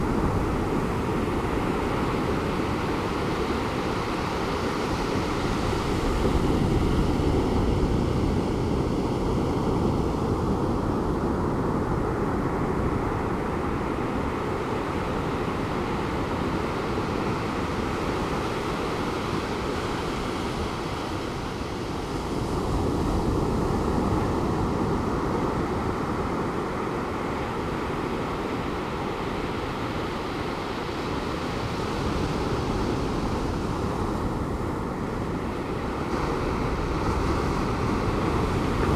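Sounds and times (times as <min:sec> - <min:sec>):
waves washing on beach: 0:00.0 - 0:38.9.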